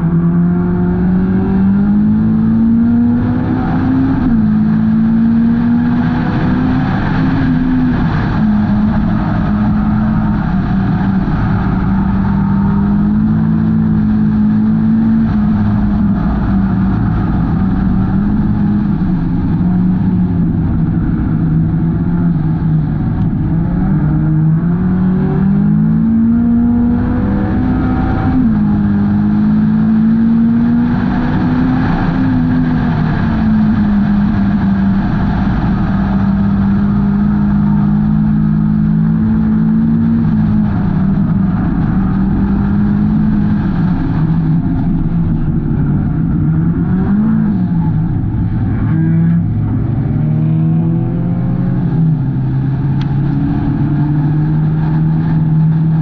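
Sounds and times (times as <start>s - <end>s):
race car engine pulling hard: 0.0s - 56.0s
road and tyre noise: 0.0s - 56.0s.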